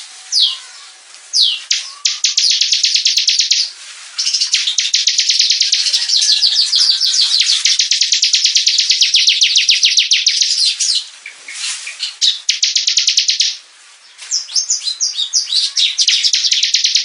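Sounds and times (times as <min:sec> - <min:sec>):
bird singing high notes: 0:00.3 - 0:11.0, 0:12.1 - 0:13.6, 0:14.4 - 0:17.0.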